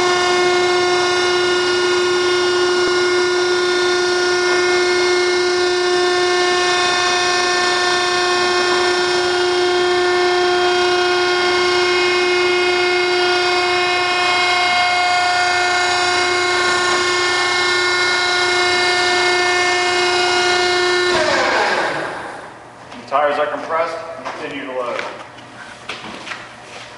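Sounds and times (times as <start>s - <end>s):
hydraulic power unit whining: 0.0s - 26.6s.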